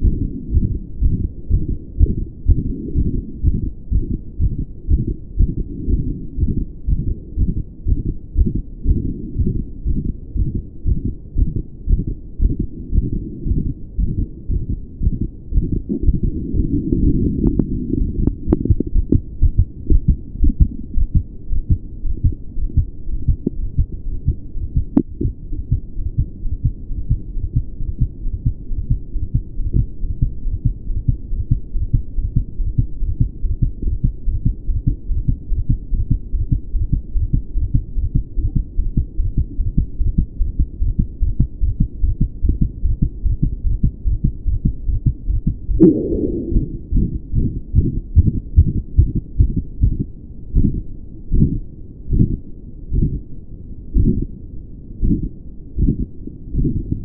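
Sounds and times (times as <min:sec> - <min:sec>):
heartbeat: 0:00.0 - 0:53.2, 0:53.9 - 0:54.3, 0:55.0 - 0:57.0.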